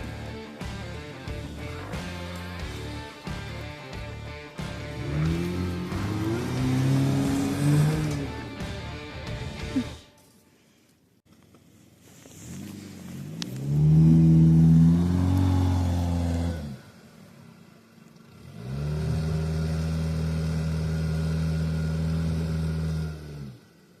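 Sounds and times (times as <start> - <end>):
car engine revving: 0.0 - 10.0, 12.3 - 24.0.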